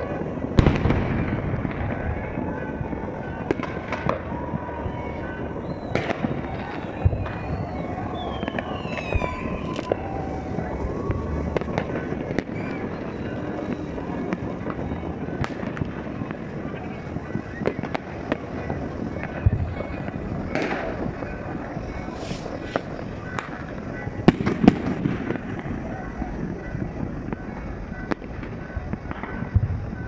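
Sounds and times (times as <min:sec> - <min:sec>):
distant explosions: 0:00.0 - 0:30.0
fireworks bangs and cracks: 0:00.0 - 0:30.0.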